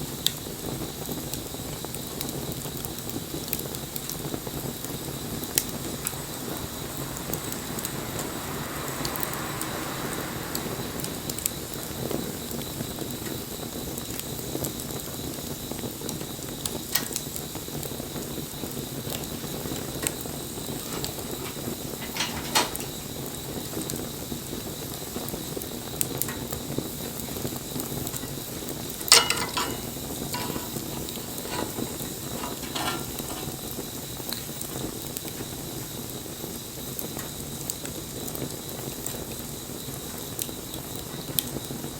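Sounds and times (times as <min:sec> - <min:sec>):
bonfire hissing: 0:00.0 - 0:41.9
fire crackling and popping: 0:00.0 - 0:41.9.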